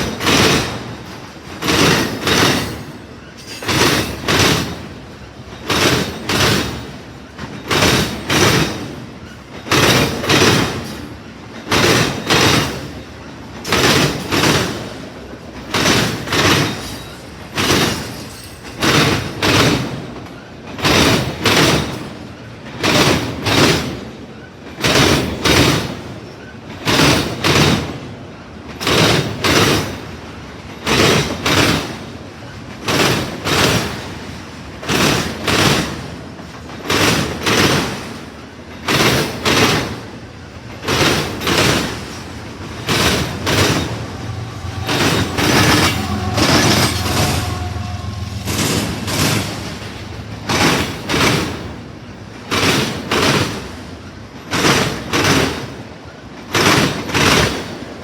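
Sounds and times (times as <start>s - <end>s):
freight train wheels clattering: 0.0s - 58.0s
train rumble: 0.0s - 58.0s.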